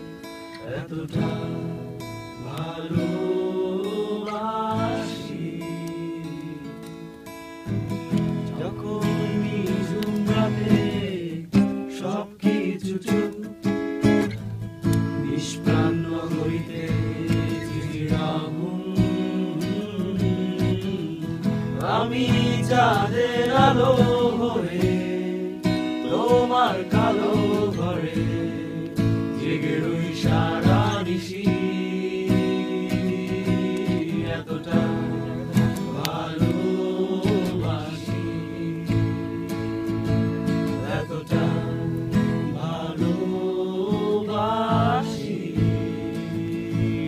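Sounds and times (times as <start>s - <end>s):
voices singing along: 0.0s - 7.1s, 8.1s - 13.8s, 15.0s - 47.0s
acoustic guitar strumming chords: 0.0s - 47.0s.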